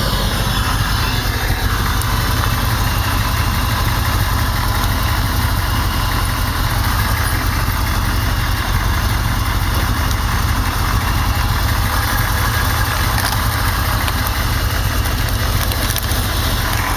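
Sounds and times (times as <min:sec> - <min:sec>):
car engine idling: 0:00.0 - 0:16.9
spark plug wires arcing: 0:00.3 - 0:16.9.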